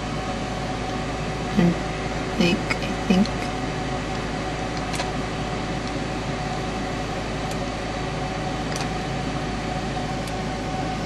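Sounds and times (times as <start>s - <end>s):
fan whirring hum: 0.0s - 11.0s.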